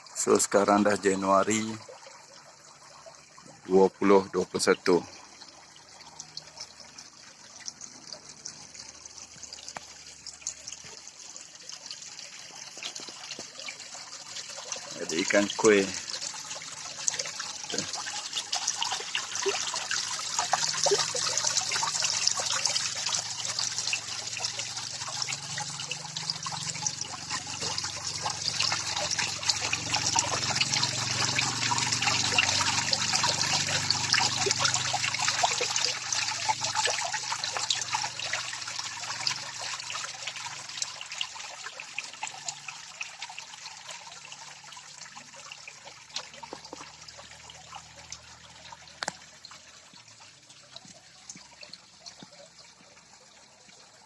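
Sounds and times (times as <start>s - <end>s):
small waterfall splashing into pond: 0.0s - 54.0s.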